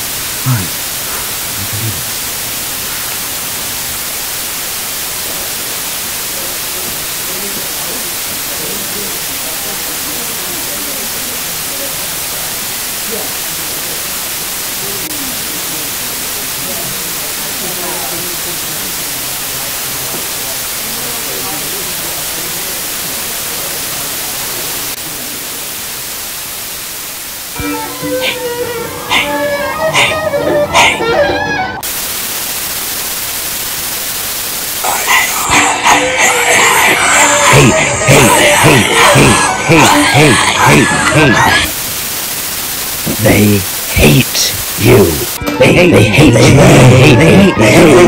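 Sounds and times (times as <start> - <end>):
loud white noise hiss: 0.0 - 48.0
faint voices: 0.4 - 2.2, 5.2 - 26.0, 27.6 - 31.8, 34.8 - 41.8, 43.0 - 48.0.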